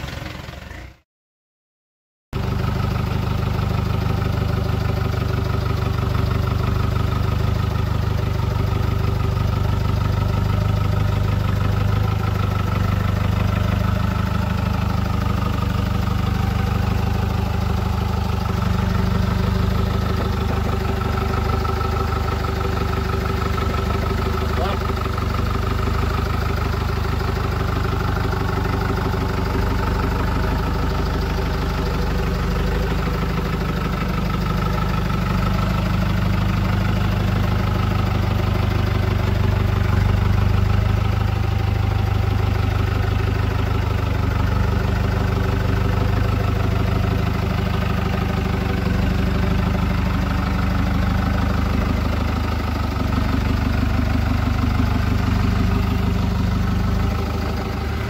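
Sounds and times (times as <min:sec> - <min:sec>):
vehicle engine running at low revs: 0:02.4 - 0:58.0.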